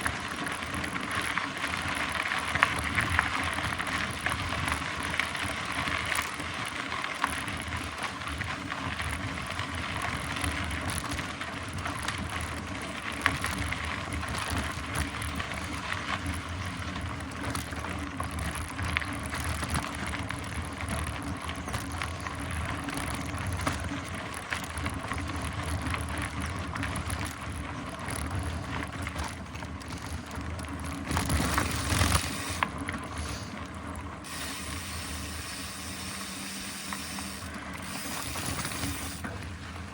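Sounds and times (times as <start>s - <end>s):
bike chain and frame rattling: 0.0s - 39.9s
bike tyres rolling on trail: 0.0s - 39.9s.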